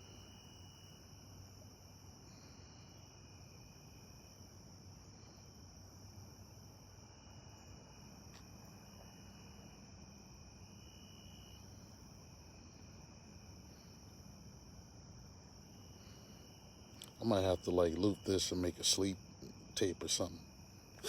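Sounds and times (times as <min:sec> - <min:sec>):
insects chirring: 0:00.0 - 0:21.0
low-pitched insect trills: 0:00.0 - 0:21.0.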